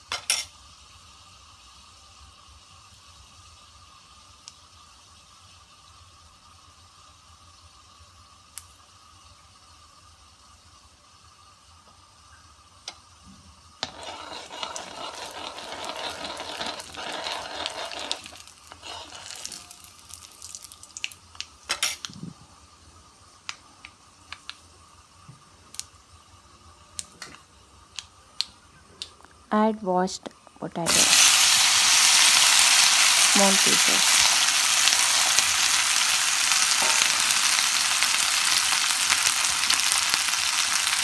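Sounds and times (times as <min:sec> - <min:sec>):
seeds sizzling in hot oil: 0:00.0 - 0:28.8, 0:30.7 - 0:41.0.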